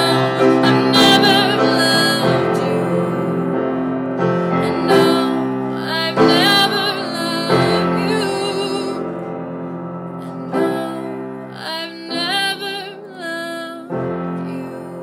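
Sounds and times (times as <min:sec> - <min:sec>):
person singing with vibrato: 0:00.0 - 0:15.0
piano chords: 0:00.0 - 0:15.0.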